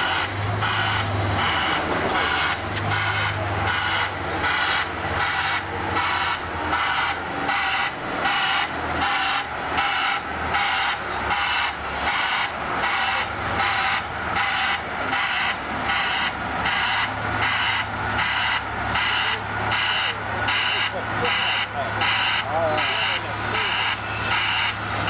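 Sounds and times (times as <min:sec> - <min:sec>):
diesel engine humming: 0:00.0 - 0:25.0
warning alarm beeping: 0:00.0 - 0:25.0.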